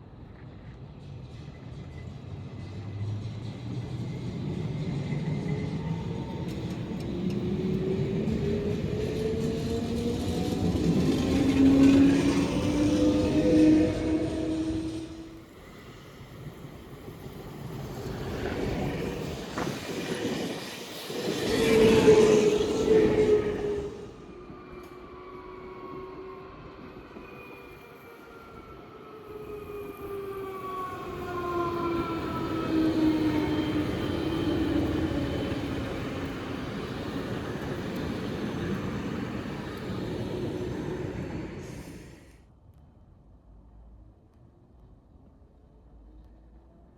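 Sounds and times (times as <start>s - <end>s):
electric train rumbling on rails: 0.0s - 42.7s.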